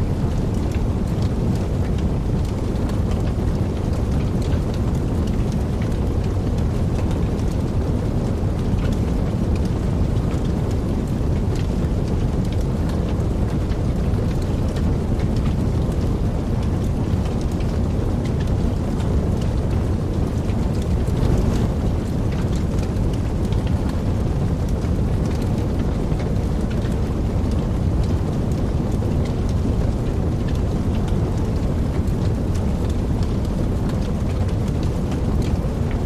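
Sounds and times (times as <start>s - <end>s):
fire crackling and popping: 0.0s - 36.0s
low rush of flame: 0.0s - 36.0s.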